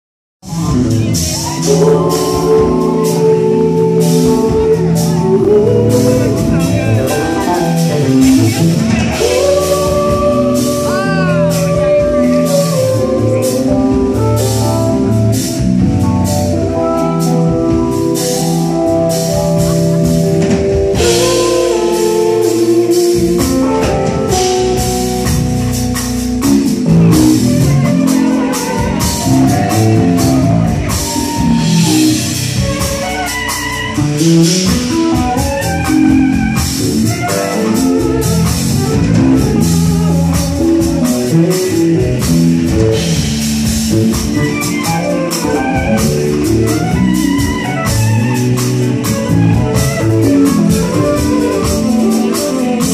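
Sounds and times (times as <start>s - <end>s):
drum and cymbal hits: 0.4s - 52.9s
electric bass guitar: 0.4s - 52.9s.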